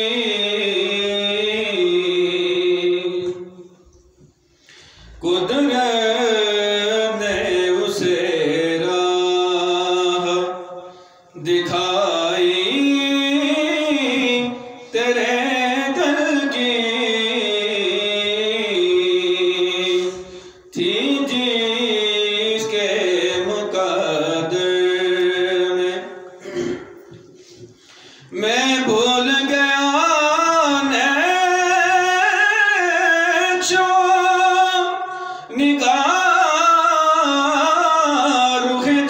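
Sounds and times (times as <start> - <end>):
man chanting unaccompanied: 0.0 - 3.6, 5.2 - 10.8, 11.4 - 26.4, 28.3 - 39.0.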